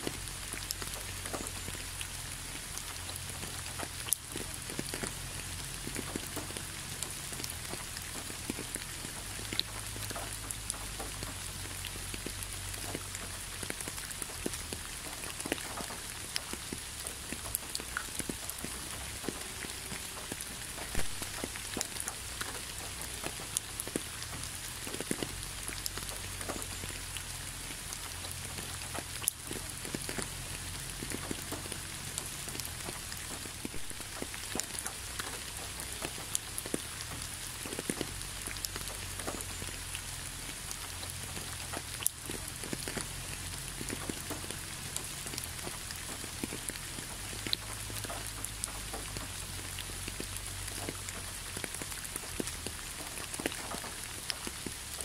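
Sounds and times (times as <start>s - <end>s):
rain drops tapping: 0.0s - 55.0s.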